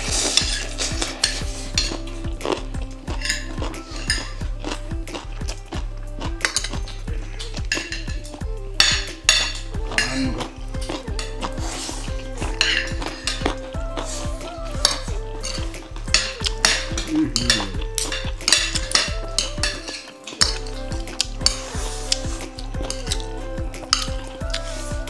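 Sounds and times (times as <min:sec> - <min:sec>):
metal utensils clinking on plates: 0:00.0 - 0:13.8, 0:14.7 - 0:24.7.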